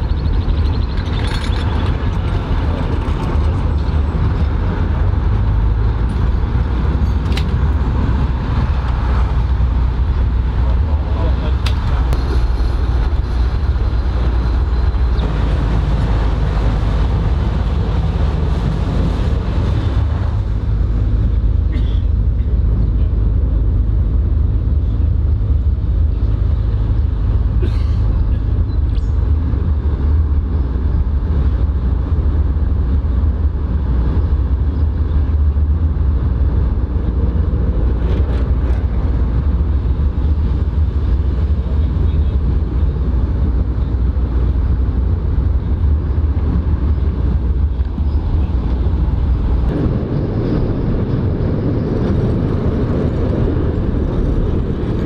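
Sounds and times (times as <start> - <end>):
railcar engine and wheels rumbling: 0.0 - 55.0.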